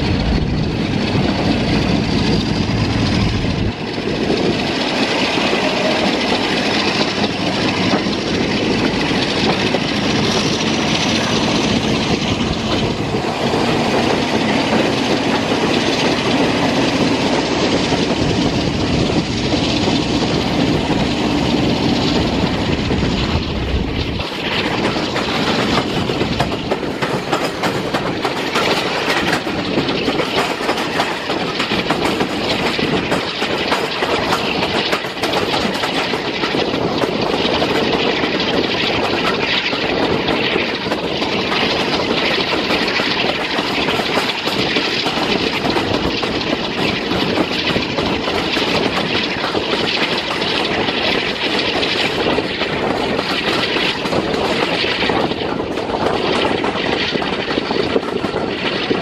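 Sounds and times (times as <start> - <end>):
rushing air: 0.0 - 59.0
train wheels clattering over rail joints: 0.0 - 59.0.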